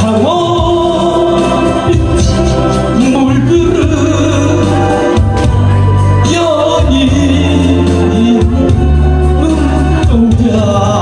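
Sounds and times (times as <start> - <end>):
backing track with bass line: 0.0 - 11.0
man singing into a microphone: 0.0 - 11.0.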